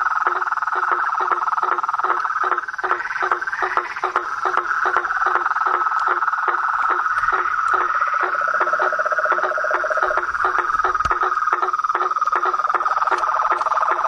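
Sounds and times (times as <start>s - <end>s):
frogs trilling: 0.0s - 14.0s.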